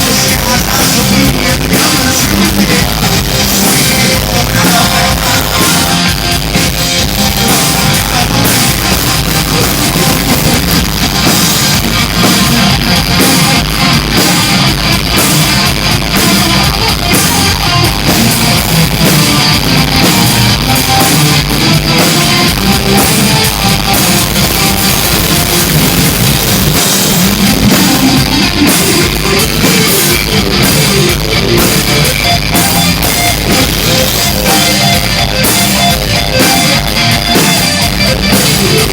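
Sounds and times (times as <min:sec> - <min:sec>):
drum kit beat: 0:00.0 - 0:38.9
electric guitars: 0:00.0 - 0:38.9.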